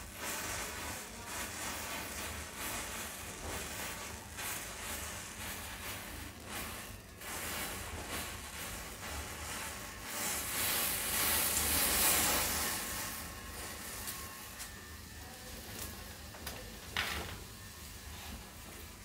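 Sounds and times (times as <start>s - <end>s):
crackles: 0.0s - 19.0s
matches flaring with fizzing hiss: 0.0s - 19.0s.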